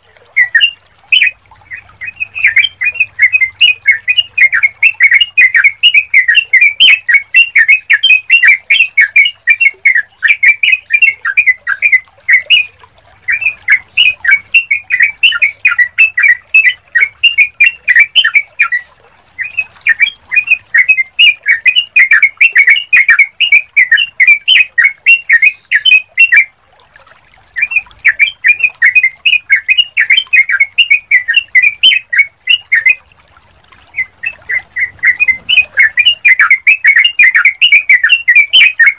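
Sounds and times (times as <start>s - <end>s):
bird chattering song: 0.4s - 26.5s, 27.6s - 33.0s, 33.9s - 38.9s.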